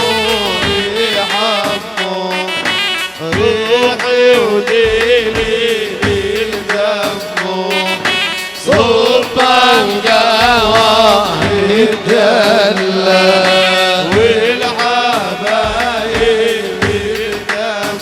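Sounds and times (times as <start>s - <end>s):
drum beat: 0.0s - 18.0s
person singing ornamented vocals: 0.0s - 18.0s
sustained accompaniment: 0.0s - 18.0s.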